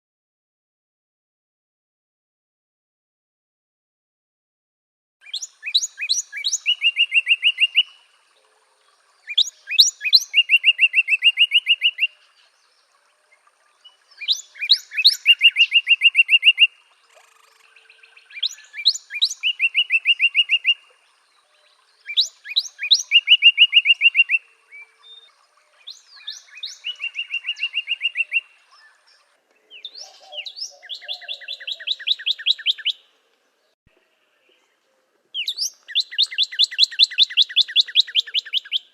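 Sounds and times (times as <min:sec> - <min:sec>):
songbird singing trills: 0:05.2 - 0:38.9.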